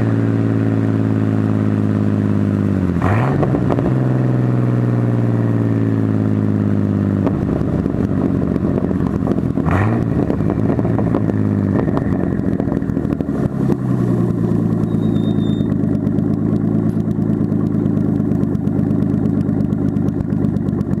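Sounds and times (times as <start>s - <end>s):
car engine slowing to idle: 0.0s - 21.0s.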